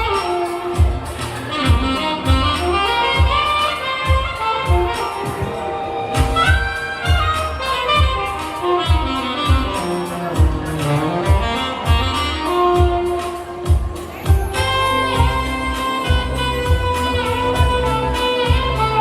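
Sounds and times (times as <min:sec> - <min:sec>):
backing track kick drum beat: 0:00.0 - 0:19.0
saxophone melody: 0:00.0 - 0:19.0.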